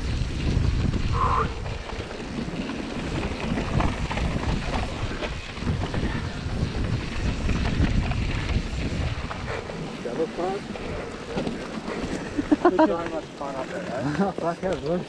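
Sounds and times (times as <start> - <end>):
wind buffeting microphone: 0.0 - 14.7
bike knocking and rattling: 0.0 - 15.0
bike tyres on gravel trail: 0.0 - 15.0.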